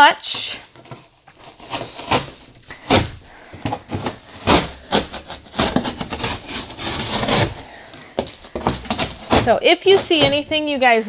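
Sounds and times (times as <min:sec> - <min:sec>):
cardboard boxes thumping and scraping: 0:00.8 - 0:10.9.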